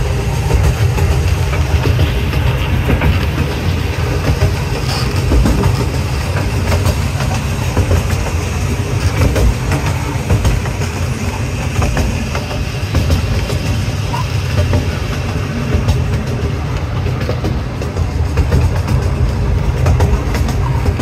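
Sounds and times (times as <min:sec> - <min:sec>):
train rumbling along track: 0:00.0 - 0:21.0
wheels clicking over rail joints: 0:00.0 - 0:21.0.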